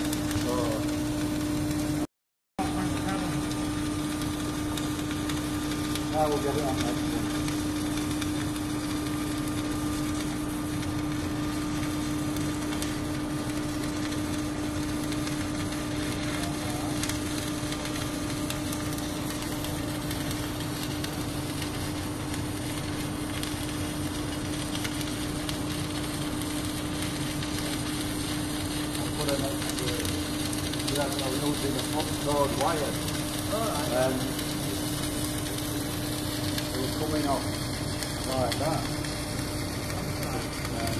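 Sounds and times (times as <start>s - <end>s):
welding crackling hiss: 0.0s - 40.9s
welding machine hum: 0.0s - 40.9s.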